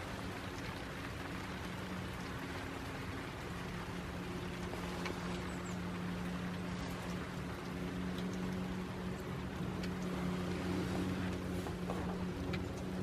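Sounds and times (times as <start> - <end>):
faint drip ticks: 0.0 - 13.0
steady low hum: 0.0 - 13.0
steady rain: 0.0 - 13.0.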